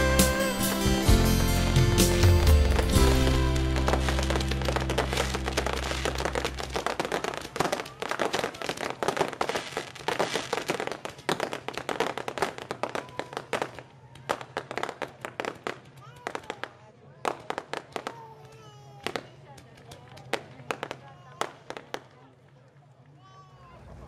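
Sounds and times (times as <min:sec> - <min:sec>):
fireworks crackling and popping: 0:00.0 - 0:22.9.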